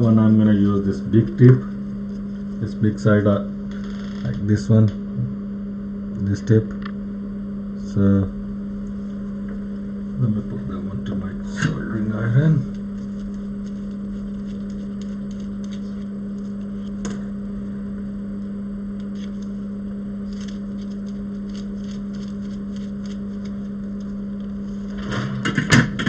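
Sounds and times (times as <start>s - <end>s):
electrical motor hum: 0.0s - 26.0s.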